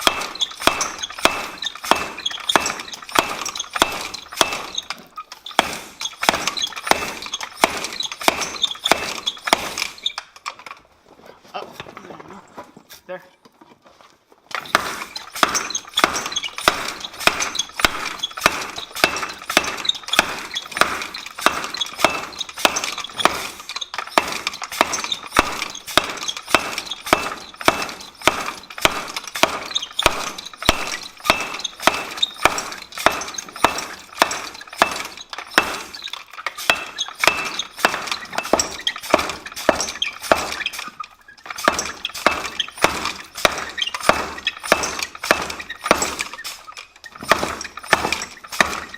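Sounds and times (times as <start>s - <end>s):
hammer clanging on steel: 0.0s - 10.2s, 14.6s - 48.9s.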